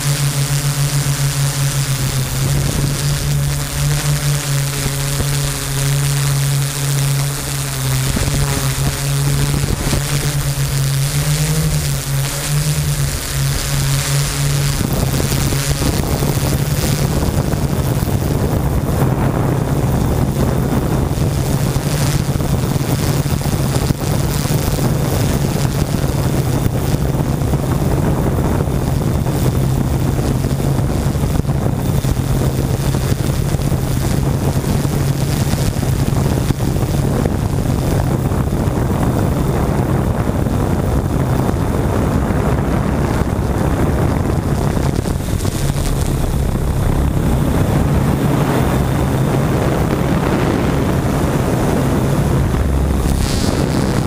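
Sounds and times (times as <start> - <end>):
drone propellers humming: 0.0 - 54.0
wind noise on microphone: 0.0 - 54.0.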